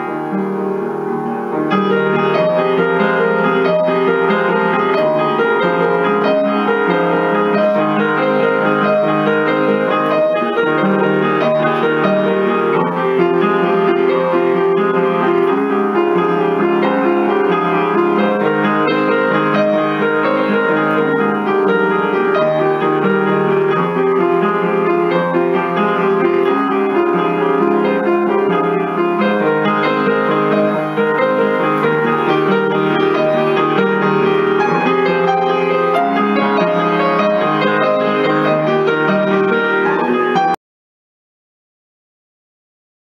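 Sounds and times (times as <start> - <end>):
piano playing: 0.0 - 40.6.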